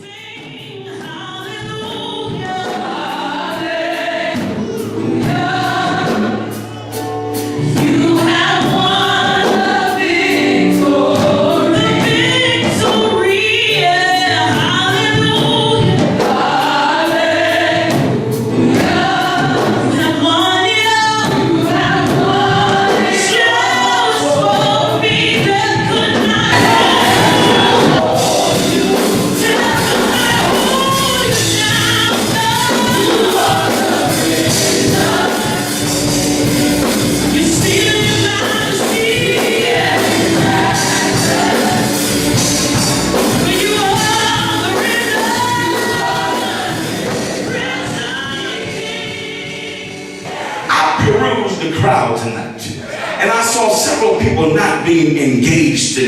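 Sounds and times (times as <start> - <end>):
instrumental accompaniment: 0.0 - 55.9
gospel choir singing: 0.0 - 56.0.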